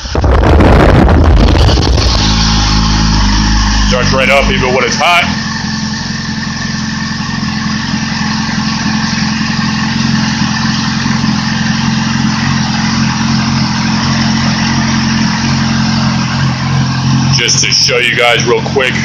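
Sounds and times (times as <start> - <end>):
motorcycle engine idling: 0.9 - 19.0.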